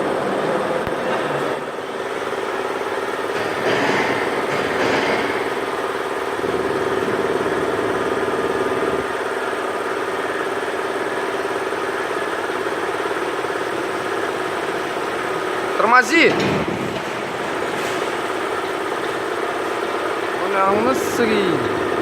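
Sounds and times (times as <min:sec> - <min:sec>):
heavy engine idling: 0:00.0 - 0:22.0.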